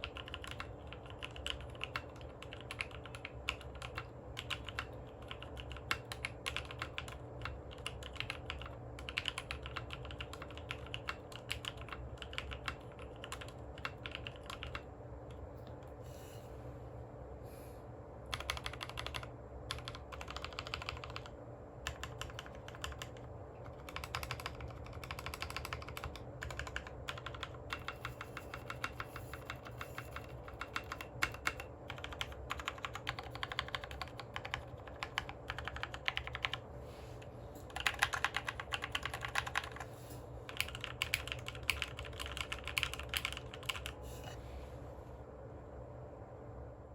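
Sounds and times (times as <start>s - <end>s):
mechanical keyboard typing: 0.0s - 15.4s, 18.3s - 36.6s, 37.7s - 39.9s, 40.5s - 44.0s.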